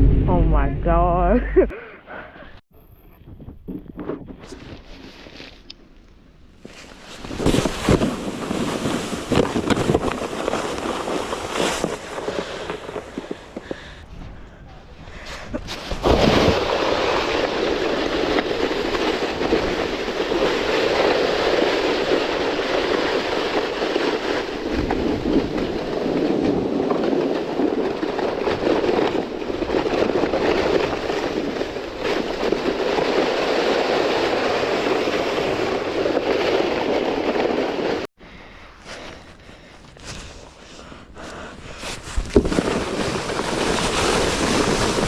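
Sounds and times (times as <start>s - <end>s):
sled scraping on snow: 6.6s - 14.0s, 15.2s - 38.1s, 38.8s - 45.0s.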